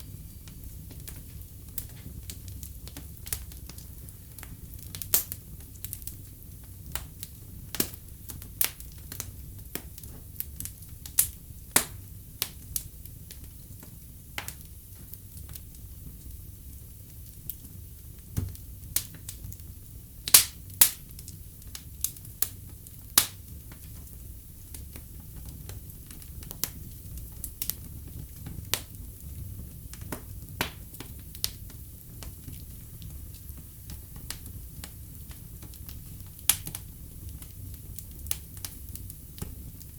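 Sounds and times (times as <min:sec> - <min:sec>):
wood fire crackling in fireplace: 0:00.0 - 0:39.9.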